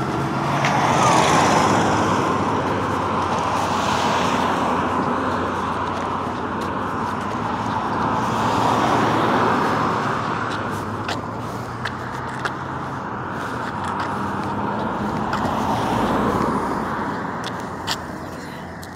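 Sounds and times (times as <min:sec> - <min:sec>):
cars passing: 0:00.0 - 0:18.9.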